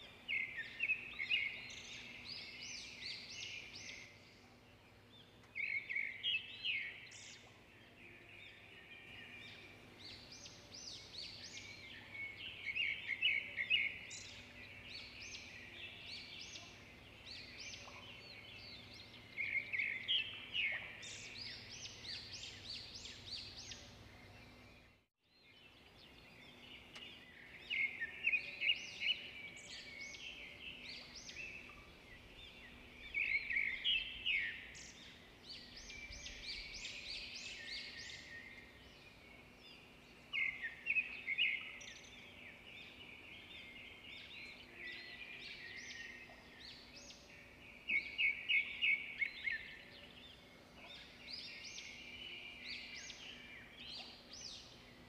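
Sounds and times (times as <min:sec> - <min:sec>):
faint background noise: 0:00.0 - 0:55.0.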